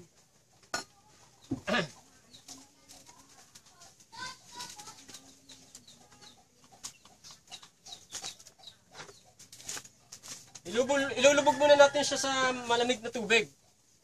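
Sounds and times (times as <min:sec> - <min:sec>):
faint birds and chickens calling: 0:00.0 - 0:14.0.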